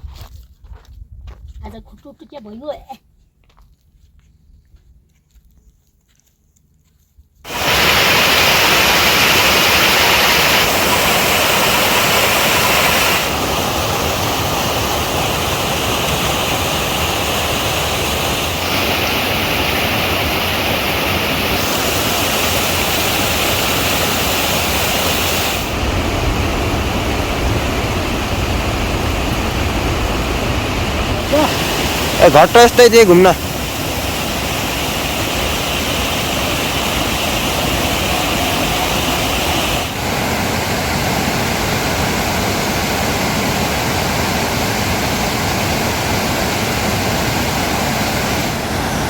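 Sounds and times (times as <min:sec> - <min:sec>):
loud rushing water: 0:07.5 - 0:49.0.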